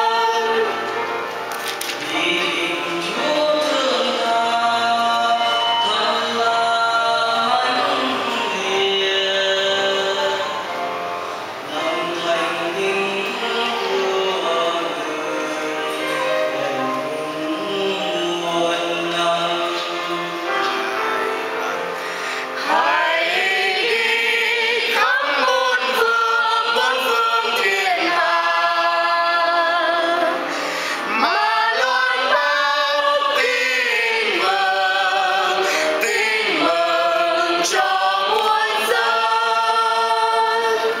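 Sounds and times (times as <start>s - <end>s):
choir singing a hymn: 0.0s - 41.0s.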